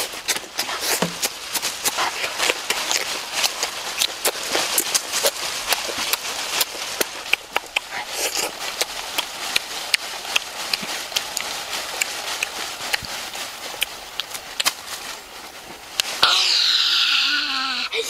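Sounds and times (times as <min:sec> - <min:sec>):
boy chewing and lip smacking: 0:00.0 - 0:18.0.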